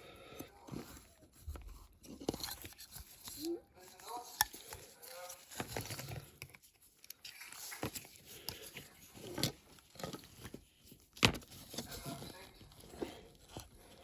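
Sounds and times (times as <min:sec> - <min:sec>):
plastic clicks and scrapes: 0:00.4 - 0:14.0.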